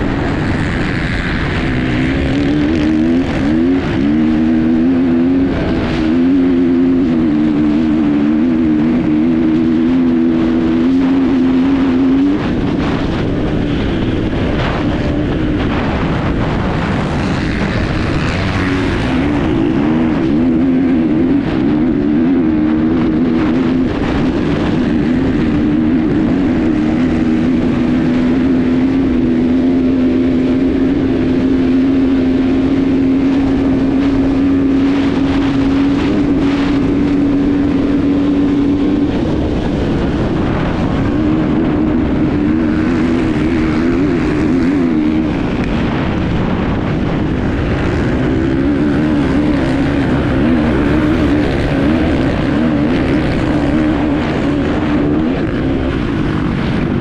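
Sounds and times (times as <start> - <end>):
motorcycle engine at high revs: 0.0 - 57.0
rushing noise: 0.0 - 57.0.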